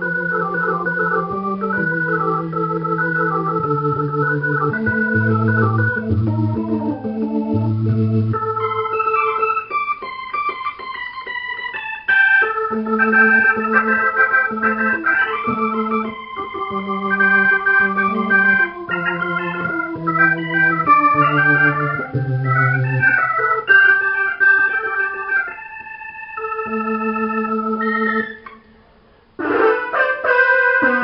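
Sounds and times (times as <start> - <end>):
organ chords with bass line: 0.0 - 28.8, 29.4 - 31.0
bright keyboard patch: 0.0 - 31.0.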